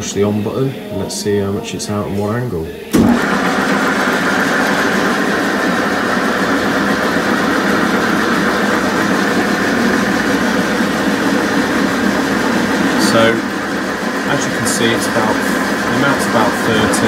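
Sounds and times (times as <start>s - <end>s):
balancing machine running: 3.0s - 17.0s.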